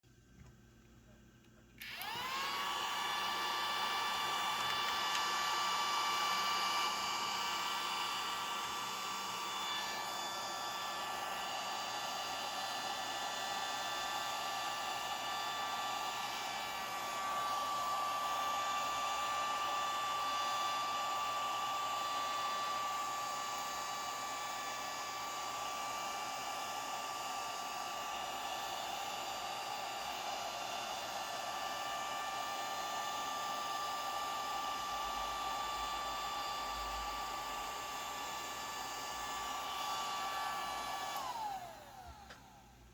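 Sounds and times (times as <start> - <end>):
vacuum cleaner motor whine: 1.8 - 42.9.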